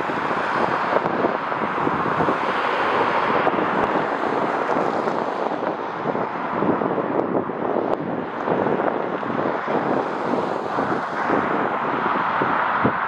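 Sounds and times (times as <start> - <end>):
jet engines roaring: 0.0 - 13.0
wind on microphone: 0.0 - 13.0.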